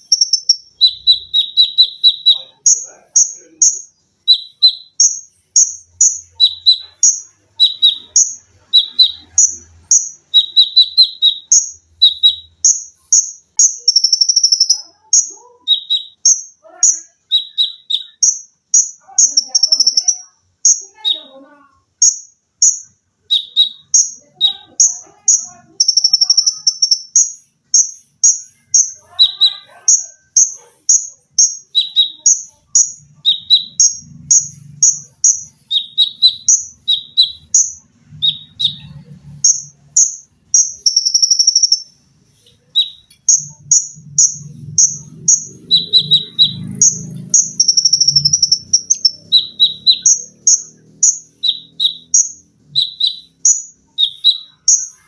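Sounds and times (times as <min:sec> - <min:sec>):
faint low hum: 0:00.0 - 0:54.9
songbird singing shrill notes: 0:00.0 - 0:55.0.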